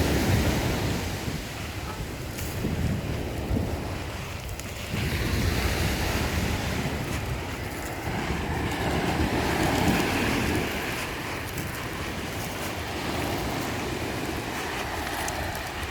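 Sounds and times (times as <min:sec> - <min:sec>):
waves breaking on shore: 0:00.0 - 0:15.9
wind buffeting microphone: 0:00.0 - 0:15.9.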